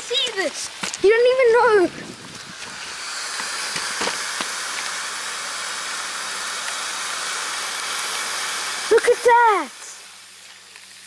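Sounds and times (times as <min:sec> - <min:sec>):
rocket motor hissing: 0:00.0 - 0:11.0.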